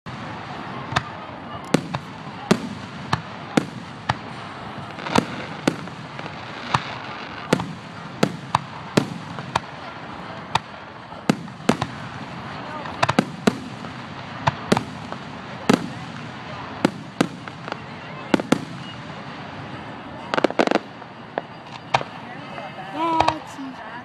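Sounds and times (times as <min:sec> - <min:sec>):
fireworks bursting: 0:00.1 - 0:23.8.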